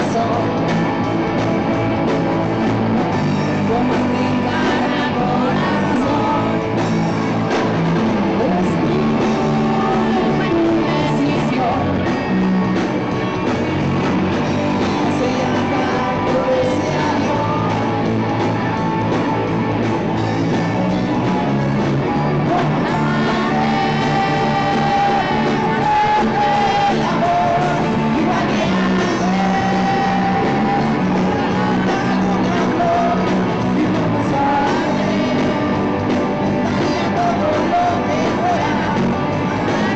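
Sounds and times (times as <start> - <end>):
man singing: 0.0 - 1.2, 3.3 - 18.2, 22.1 - 39.9
electric guitars: 0.0 - 39.9.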